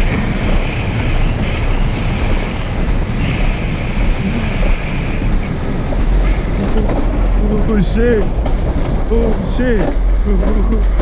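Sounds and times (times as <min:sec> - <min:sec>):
sled wheels rumbling on rail: 0:00.0 - 0:11.0
wind on microphone: 0:00.0 - 0:11.0.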